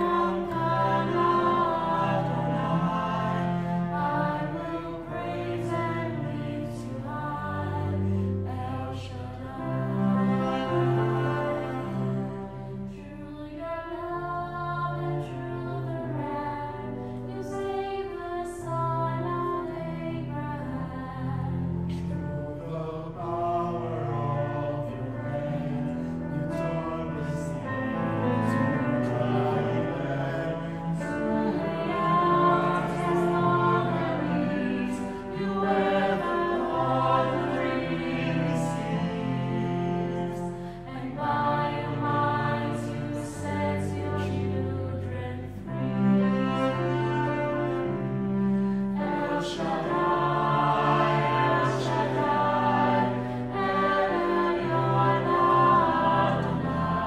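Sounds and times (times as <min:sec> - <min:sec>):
bowed cello: 0:00.0 - 0:57.0
piano accompaniment: 0:00.0 - 0:57.0
vocal ensemble singing in harmony: 0:00.0 - 0:57.0.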